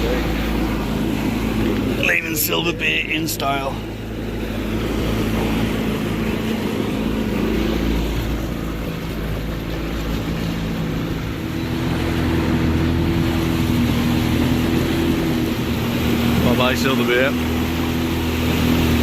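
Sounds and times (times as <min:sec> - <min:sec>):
motorboat engine running: 0:00.0 - 0:19.0
rushing water noise: 0:00.0 - 0:19.0.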